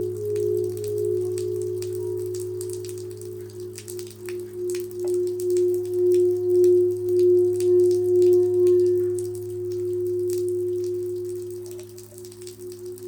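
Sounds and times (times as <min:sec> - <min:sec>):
crystal singing bowl ringing: 0:00.0 - 0:13.0
low steady hum: 0:00.0 - 0:13.0.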